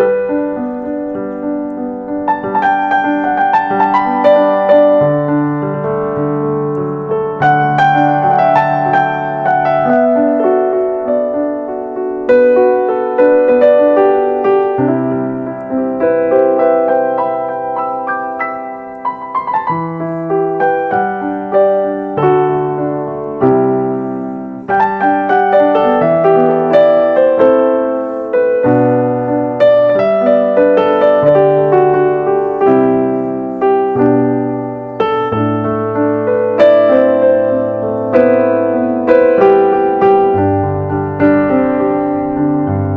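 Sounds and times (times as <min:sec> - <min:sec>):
slow gentle solo piano: 0:00.0 - 0:42.9.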